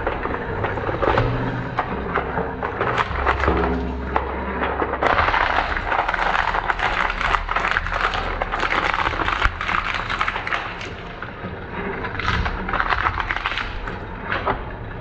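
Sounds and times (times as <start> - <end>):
plastic cracking and snapping: 0.0 - 14.7.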